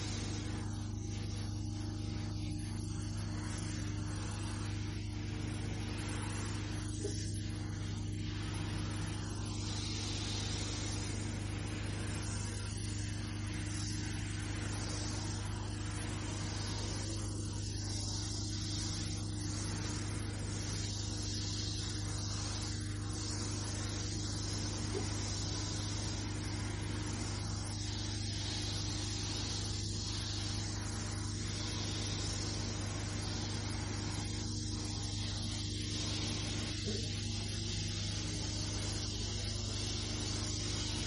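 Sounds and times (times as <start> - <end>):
carpet cleaning machine humming: 0.0 - 41.0
cleaning solution spraying hiss: 0.0 - 41.0.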